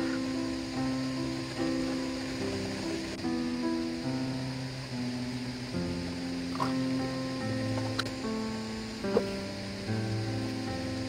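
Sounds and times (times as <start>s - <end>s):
instrumental music held notes: 0.0s - 11.0s.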